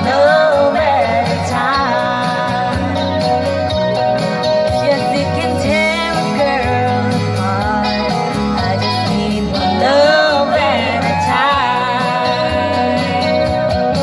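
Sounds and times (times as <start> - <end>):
woman singing into a microphone: 0.0 - 3.6, 4.6 - 14.0
guitar accompaniment: 0.0 - 14.0.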